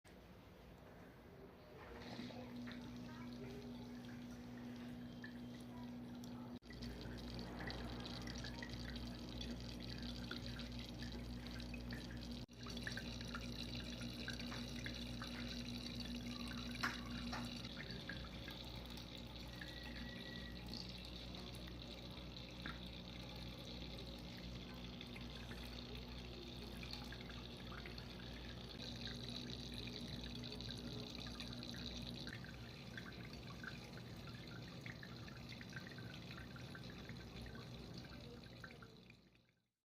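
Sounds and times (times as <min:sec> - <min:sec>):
low steady hum: 0:00.1 - 0:39.5
water drips pattering: 0:01.8 - 0:39.5.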